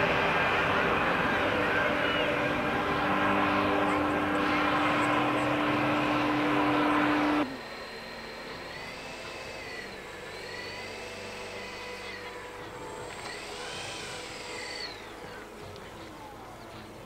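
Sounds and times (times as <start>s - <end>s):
model aircraft engine whine: 0.0s - 17.0s.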